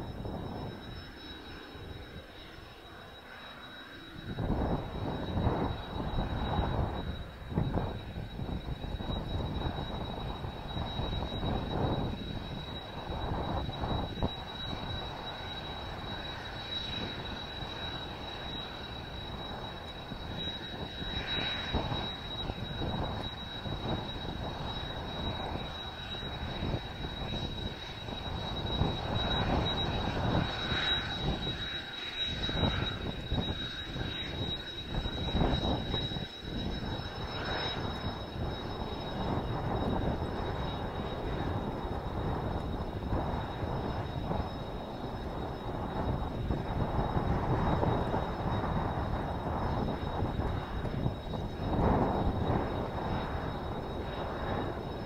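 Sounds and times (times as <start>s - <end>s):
wind buffeting microphone: 0.0s - 2.5s, 4.1s - 55.0s
jet engines whining: 0.0s - 55.0s.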